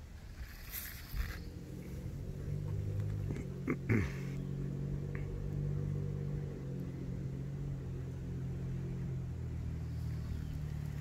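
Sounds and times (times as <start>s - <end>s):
small two-stroke engine idling: 0.6s - 11.0s.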